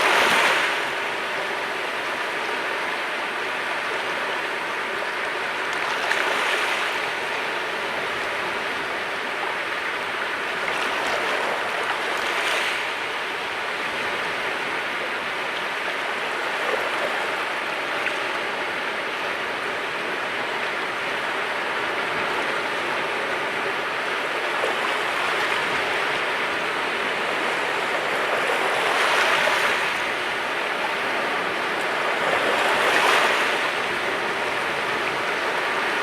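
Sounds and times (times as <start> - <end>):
sea surf washing on shore: 0.0 - 36.0.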